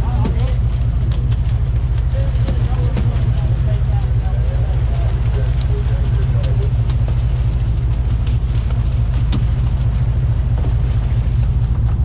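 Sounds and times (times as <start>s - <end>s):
boat engines rumbling: 0.0s - 12.0s
rushing water: 0.0s - 12.0s
wind: 0.0s - 12.0s.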